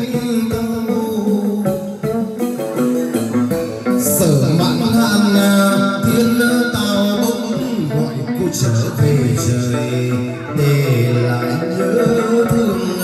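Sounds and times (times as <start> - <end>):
plucked lute: 0.0 - 13.0
rhythmic percussion: 0.0 - 13.0.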